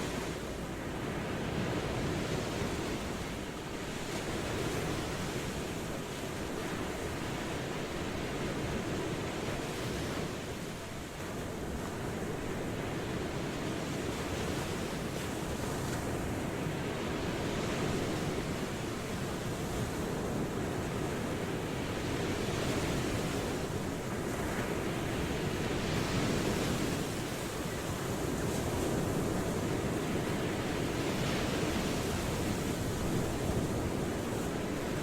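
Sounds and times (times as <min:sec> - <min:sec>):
ocean waves on shore: 0:00.0 - 0:35.0.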